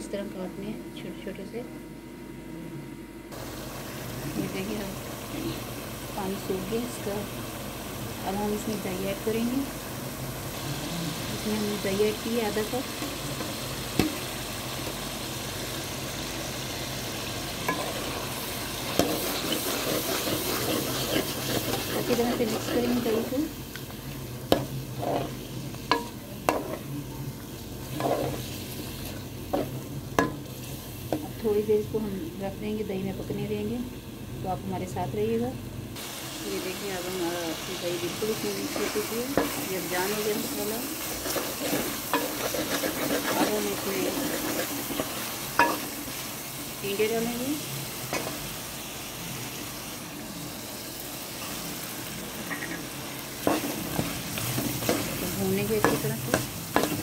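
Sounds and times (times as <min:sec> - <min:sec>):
soft sizzle: 0:03.3 - 0:57.0.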